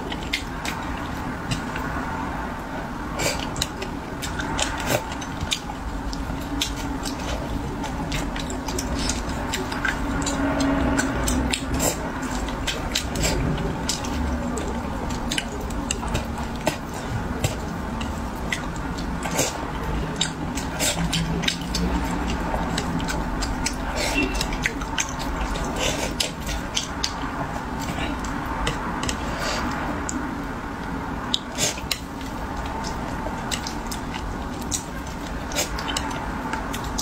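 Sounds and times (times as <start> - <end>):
chewing and lip-smacking: 0.0 - 37.0
low background hum: 0.0 - 37.0.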